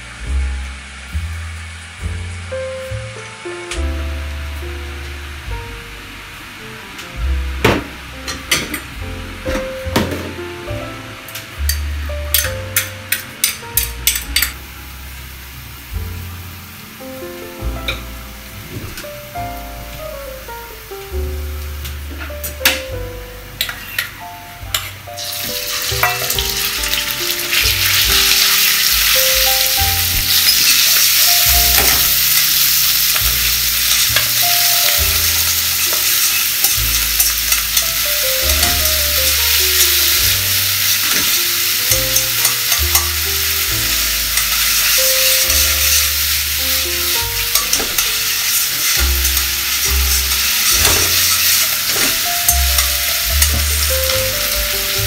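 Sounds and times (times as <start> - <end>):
chicken sizzling in frying pan: 0.0 - 55.0.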